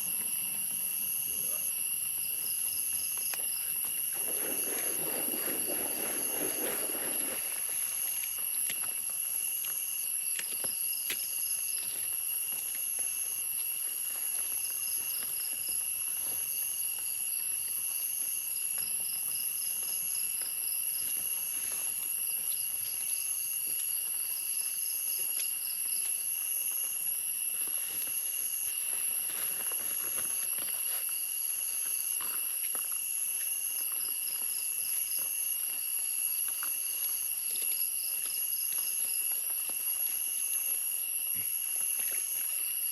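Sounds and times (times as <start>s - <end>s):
insects buzzing: 0.0s - 42.9s
low insect drone: 0.0s - 42.9s
pulsed insect trills: 0.0s - 42.9s.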